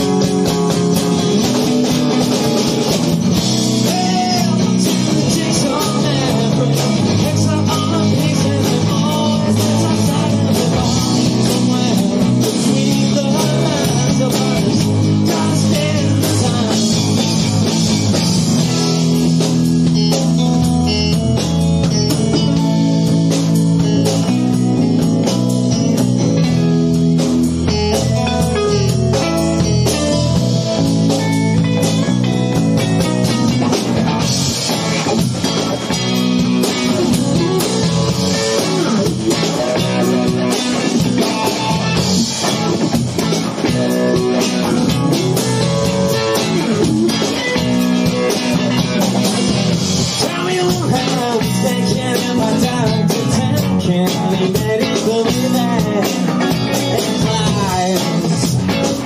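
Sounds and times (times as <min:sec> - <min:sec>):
bass guitar: 0:00.0 - 0:59.0
drum kit with cymbals: 0:00.0 - 0:59.0
electric guitar: 0:00.0 - 0:59.0.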